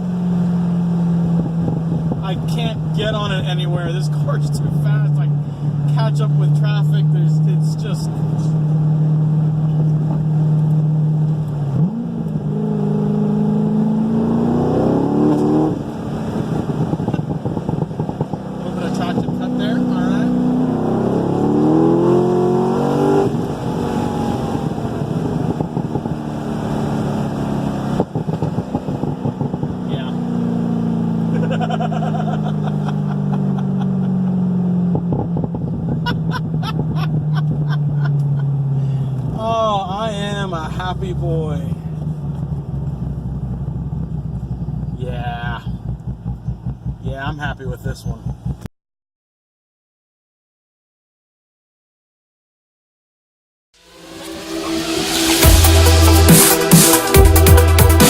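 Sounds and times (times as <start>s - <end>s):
vee eight engine revving: 1.3s - 48.7s, 53.8s - 58.0s.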